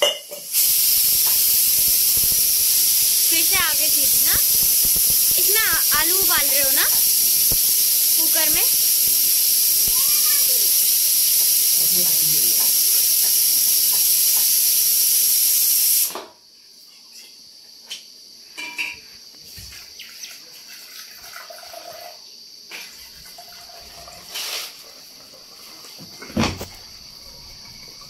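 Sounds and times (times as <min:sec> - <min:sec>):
pressure cooker steam hiss: 0:00.0 - 0:16.4, 0:17.9 - 0:28.0.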